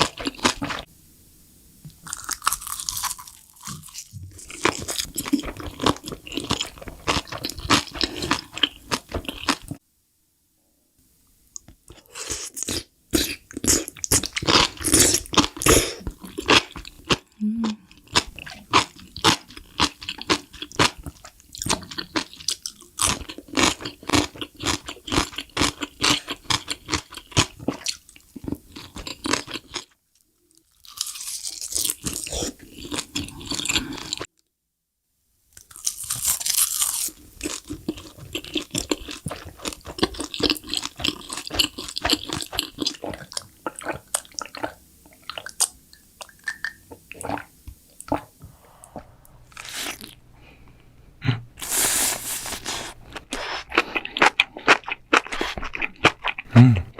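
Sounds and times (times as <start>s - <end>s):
people chewing crunchy food: 0.0s - 0.9s, 1.9s - 9.8s, 11.6s - 34.3s, 35.6s - 50.2s, 51.2s - 56.9s.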